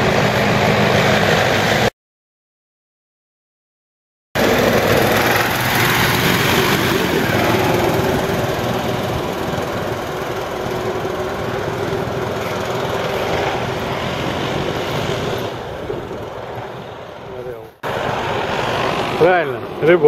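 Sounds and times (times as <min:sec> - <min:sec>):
hovercraft engine and propeller drone: 0:00.0 - 0:01.9, 0:04.4 - 0:20.0.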